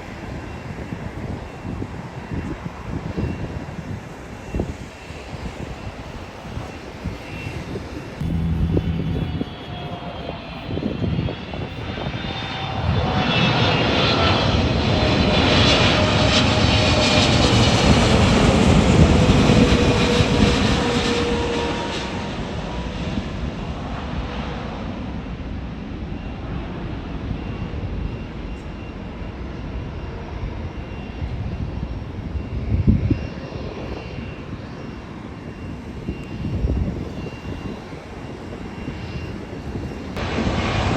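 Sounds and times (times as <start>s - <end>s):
jet airliner passing: 0.0s - 40.9s.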